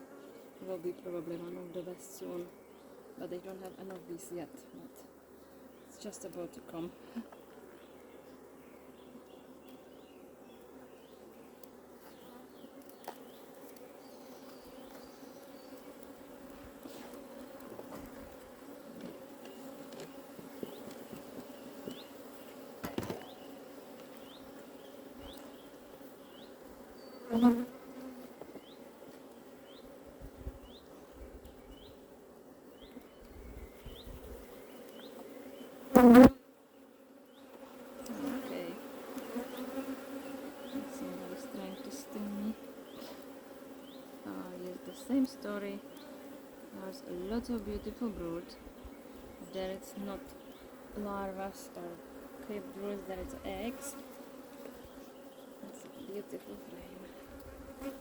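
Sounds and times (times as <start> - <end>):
honeybees buzzing: 0.0 - 58.0.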